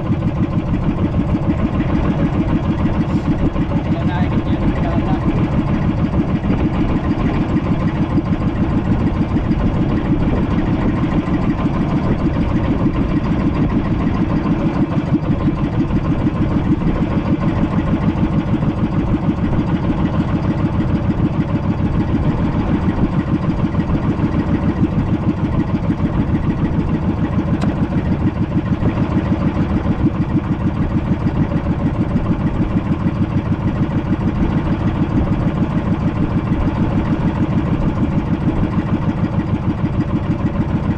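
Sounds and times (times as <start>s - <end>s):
small boat engine running: 0.0s - 40.9s.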